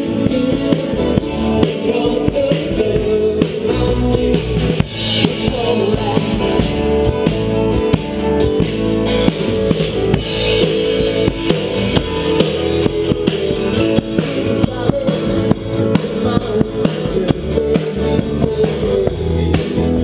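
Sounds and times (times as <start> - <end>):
drum and cymbal strokes: 0.0 - 20.0
live band music: 0.0 - 20.0.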